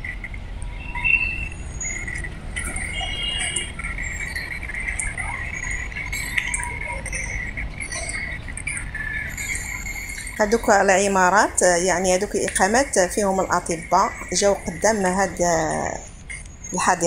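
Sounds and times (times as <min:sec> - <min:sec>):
bird chirps: 0:00.1 - 0:17.0.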